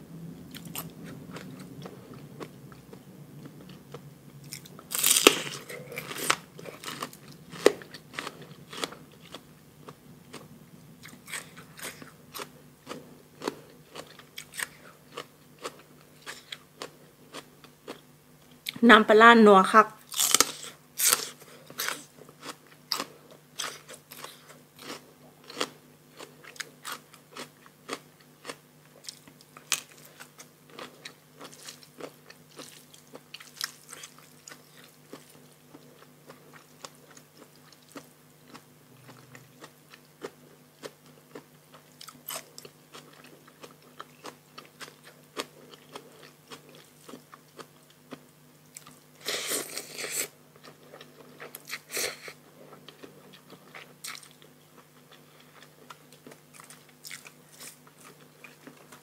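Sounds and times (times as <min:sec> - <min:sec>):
faint low hum: 0:00.0 - 0:59.0
crunching and chewing vegetables: 0:00.5 - 0:18.8, 0:20.0 - 0:59.0.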